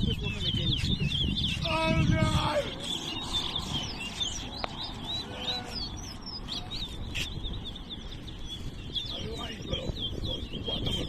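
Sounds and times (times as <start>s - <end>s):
finch singing quick chirps: 0.0s - 11.0s.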